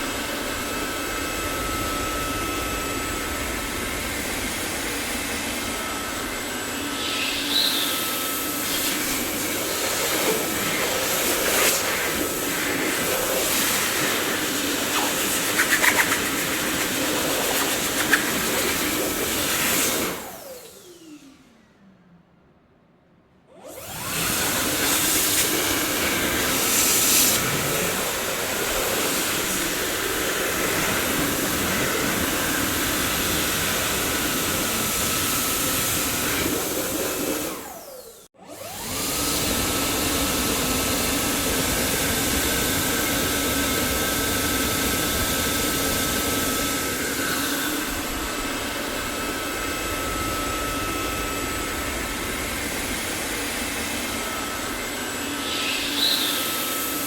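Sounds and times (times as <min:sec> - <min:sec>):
vacuum cleaner motor whirring: 0:00.0 - 0:21.7, 0:23.5 - 0:57.0.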